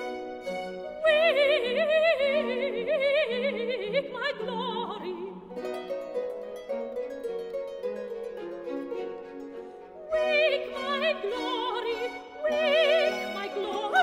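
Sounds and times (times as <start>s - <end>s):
plucked harp: 0.0s - 14.0s
soprano singing: 0.0s - 14.0s
strings playing: 0.0s - 14.0s.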